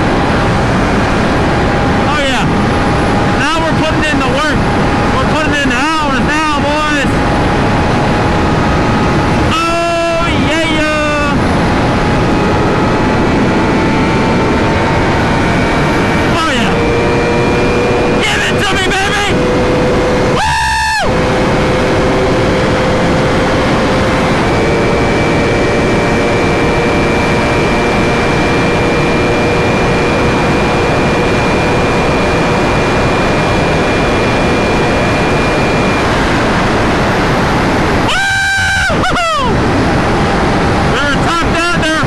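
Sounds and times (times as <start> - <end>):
motorcycle engine: 0.0 - 42.0
wind rushing over camera: 0.0 - 42.0.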